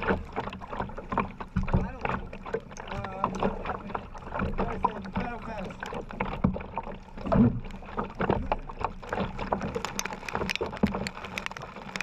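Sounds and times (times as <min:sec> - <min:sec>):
heavy rain patter: 0:00.0 - 0:06.2, 0:08.0 - 0:12.0
paddle strokes splashing: 0:00.0 - 0:12.0.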